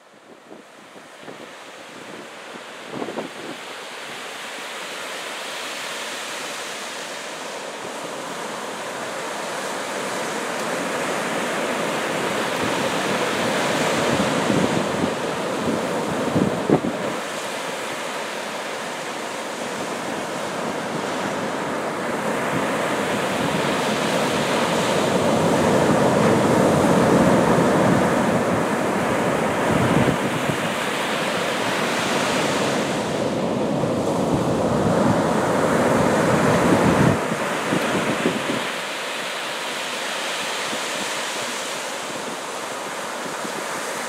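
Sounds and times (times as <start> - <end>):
surf breaking on sandy beach: 0.0 - 44.0.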